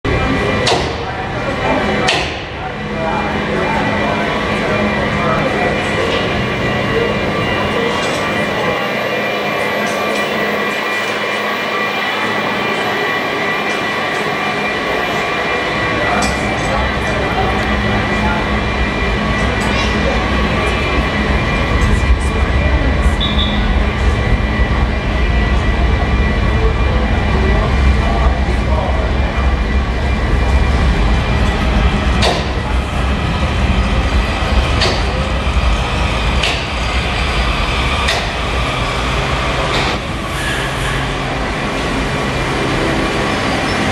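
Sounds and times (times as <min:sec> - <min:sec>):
underground train approaching: 0:00.0 - 0:43.9.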